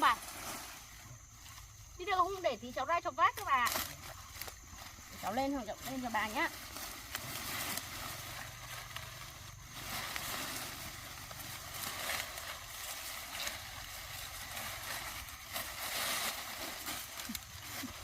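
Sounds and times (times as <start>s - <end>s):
dry corn stalks rustling: 0.0s - 18.0s.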